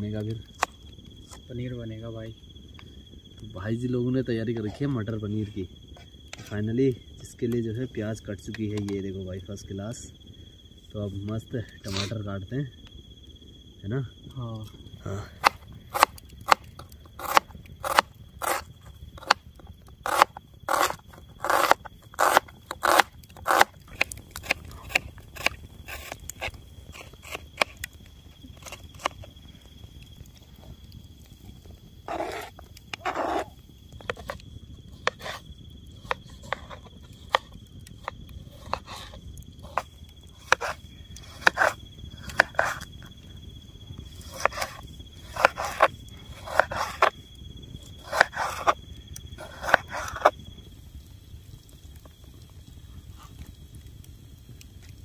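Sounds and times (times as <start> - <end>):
high insect trill: 0.0 - 55.0.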